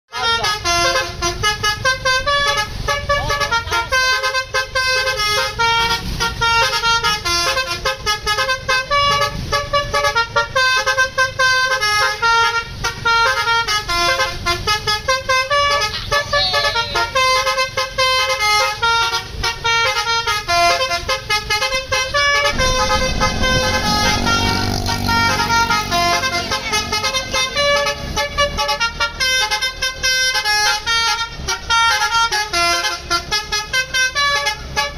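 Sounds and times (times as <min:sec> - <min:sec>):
musical horn melody: 0:00.1 - 0:34.9
coach engine rumble: 0:00.2 - 0:34.9.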